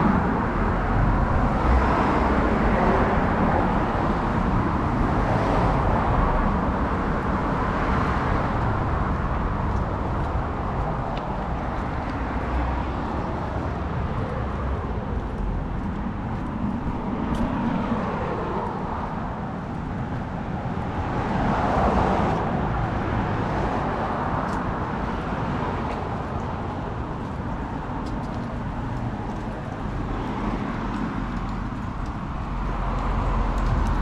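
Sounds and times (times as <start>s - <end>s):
cars passing: 0.0s - 34.0s
city background noise: 0.0s - 34.0s.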